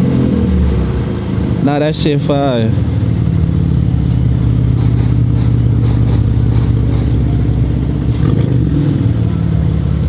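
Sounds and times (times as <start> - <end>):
vehicle engine idling: 0.8 - 10.0.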